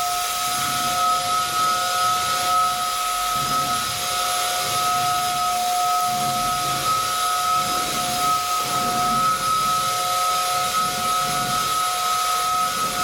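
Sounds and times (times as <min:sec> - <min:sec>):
rushing air hiss: 0:00.0 - 0:13.0
vacuum motor whine: 0:00.0 - 0:13.0.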